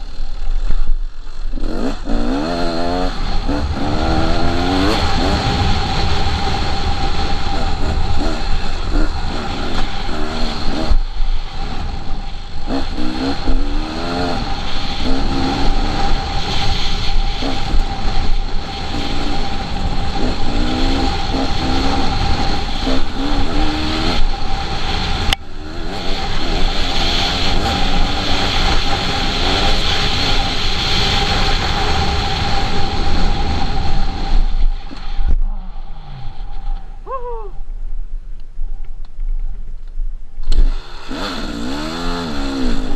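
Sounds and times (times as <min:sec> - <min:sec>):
dirt bike engine revving: 0:00.0 - 0:36.9, 0:40.5 - 0:42.9.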